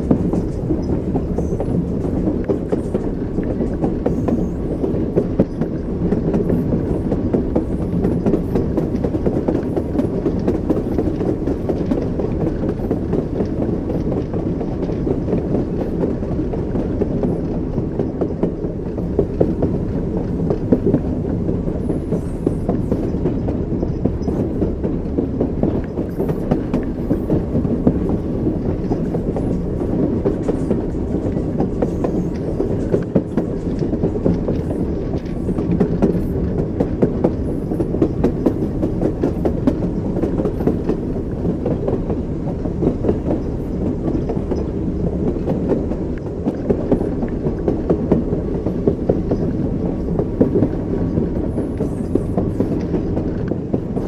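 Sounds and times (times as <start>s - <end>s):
moving train rumble: 0.0s - 54.0s
train wheels clacking: 0.0s - 54.0s.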